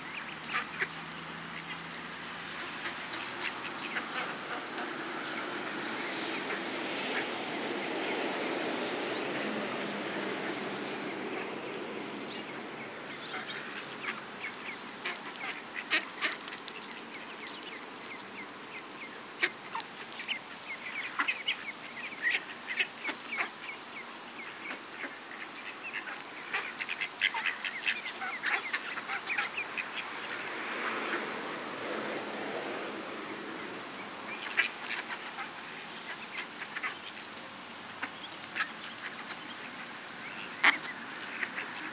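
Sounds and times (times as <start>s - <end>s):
ducks quacking: 0.0s - 41.9s.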